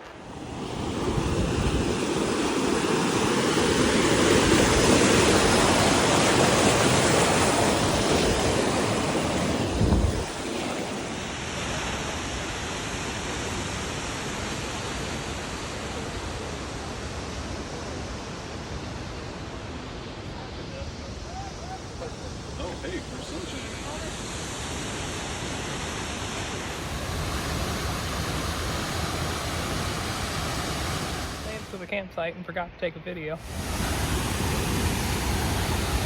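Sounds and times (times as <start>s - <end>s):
waterfall roaring: 0.0s - 31.9s, 33.4s - 36.0s.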